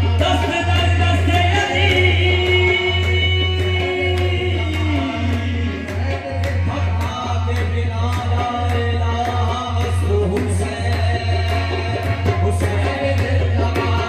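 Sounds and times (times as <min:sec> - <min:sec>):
harmonium: 0:00.0 - 0:14.0
man singing: 0:00.0 - 0:14.0
rhythmic hand-clapping: 0:00.0 - 0:14.0
tabla: 0:00.0 - 0:14.0.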